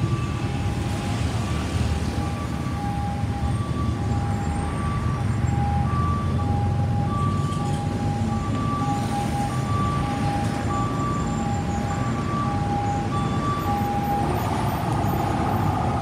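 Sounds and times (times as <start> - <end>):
city traffic rumble: 0.0 - 16.0
two-tone siren: 0.0 - 16.0.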